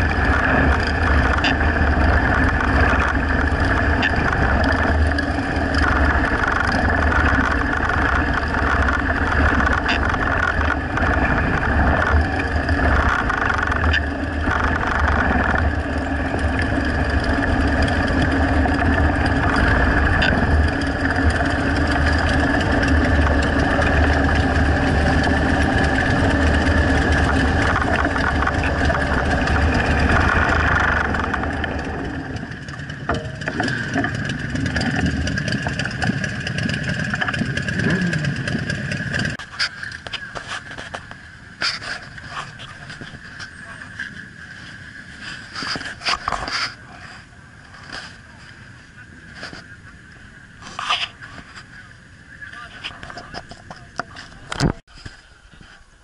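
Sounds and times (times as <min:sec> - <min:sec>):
motorcycle engine rumbling: 0:00.0 - 0:56.0.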